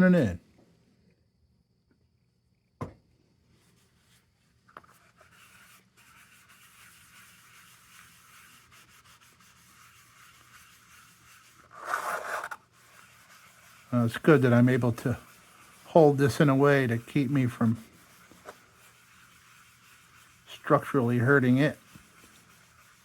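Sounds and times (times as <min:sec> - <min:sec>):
paper towel rubbing plastic lens: 0:03.7 - 0:23.0.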